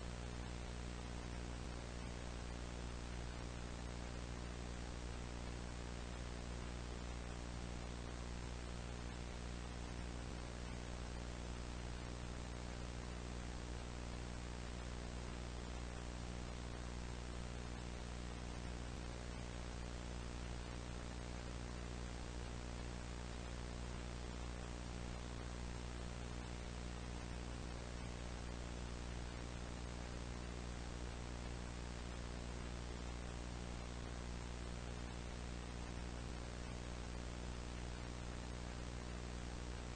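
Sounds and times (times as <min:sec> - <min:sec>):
electrical hum: 0:00.0 - 0:39.9
static hiss: 0:00.0 - 0:39.9.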